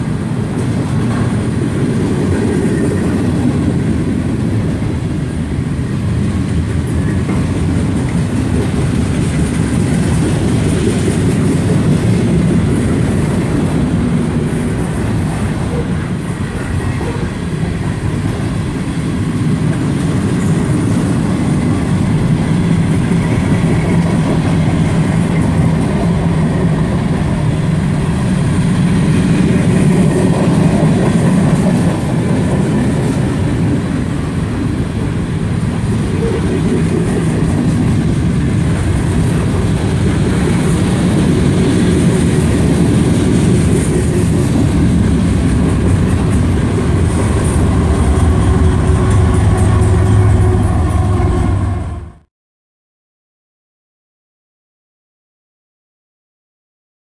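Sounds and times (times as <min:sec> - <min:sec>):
freight train wheels rumbling on rails: 0:00.0 - 0:52.3.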